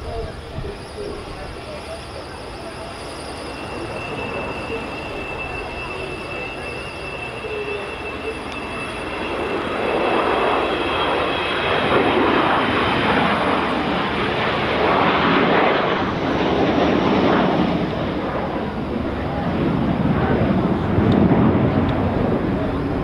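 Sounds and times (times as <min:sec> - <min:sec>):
jet bomber flying past: 0:00.0 - 0:23.0.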